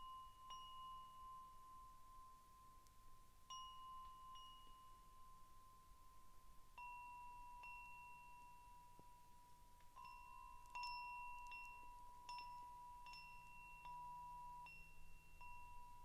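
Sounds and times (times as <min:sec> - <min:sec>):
wind chime ringing: 0:00.0 - 0:02.8, 0:03.5 - 0:16.0.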